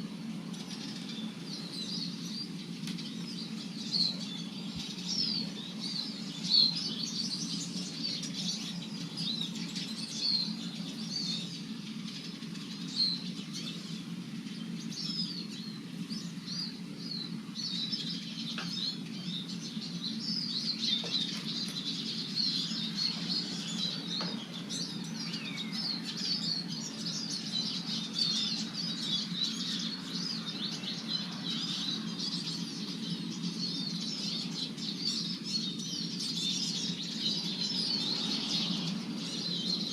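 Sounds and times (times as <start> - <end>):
birds twittering: 0.0 - 39.9
steady low hum: 0.0 - 39.9.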